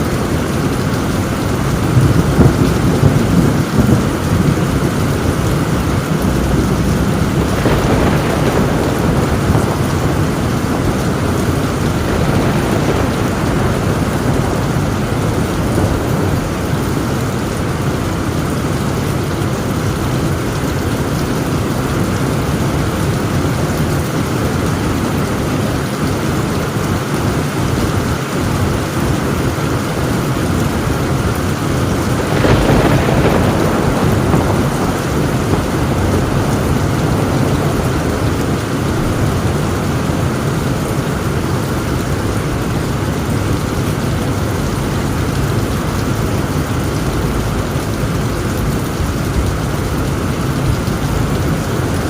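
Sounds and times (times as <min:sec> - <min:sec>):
heavy rain on a tin roof: 0:00.0 - 0:52.0
thunder rumble: 0:00.0 - 0:52.0.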